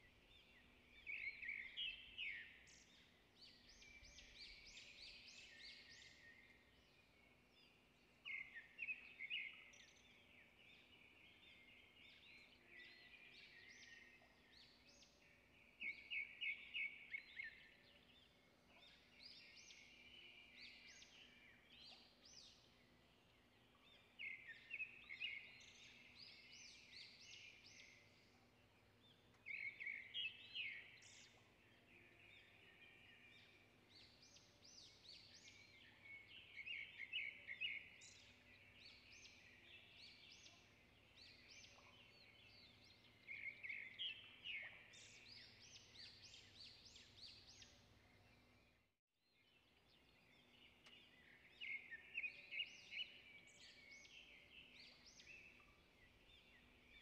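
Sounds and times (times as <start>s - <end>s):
birds chirping: 0.0s - 48.8s, 49.6s - 57.0s.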